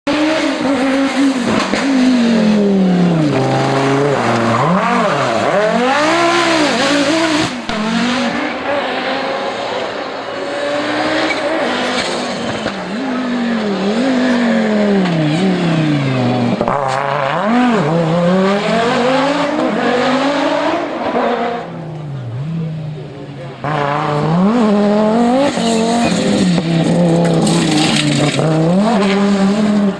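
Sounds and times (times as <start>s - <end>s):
car engine revving hard: 0.1s - 29.9s.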